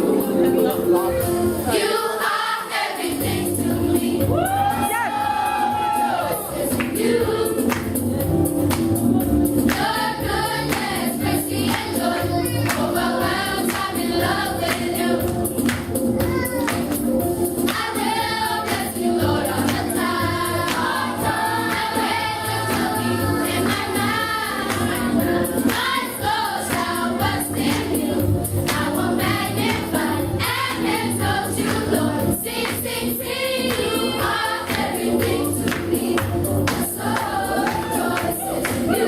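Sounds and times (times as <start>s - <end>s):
choir singing gospel: 0.0s - 16.1s, 16.8s - 39.0s
instrumental accompaniment: 0.0s - 39.0s
steady percussion: 0.0s - 39.0s.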